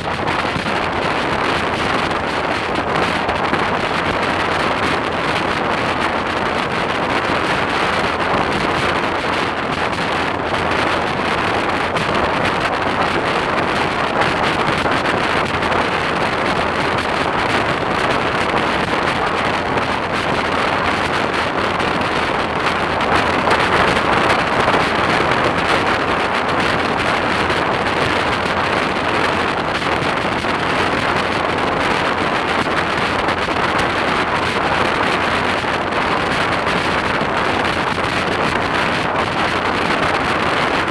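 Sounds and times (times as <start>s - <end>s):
motorcycle engine: 0.0s - 40.9s
wind rushing on microphone: 0.0s - 40.9s.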